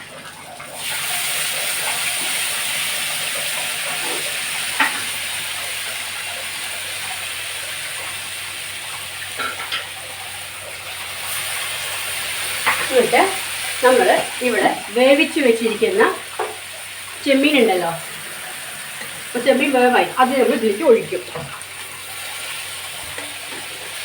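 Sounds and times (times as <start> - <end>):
paste sizzling in hot oil: 0.6 - 24.0.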